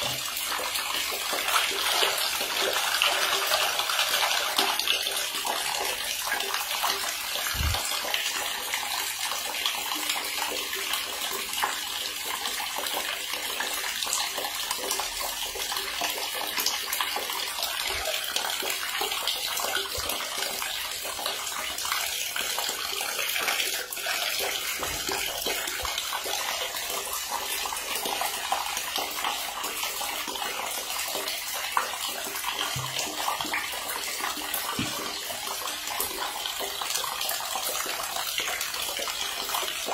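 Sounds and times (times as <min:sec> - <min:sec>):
water running into bathtub: 0:00.0 - 0:39.9.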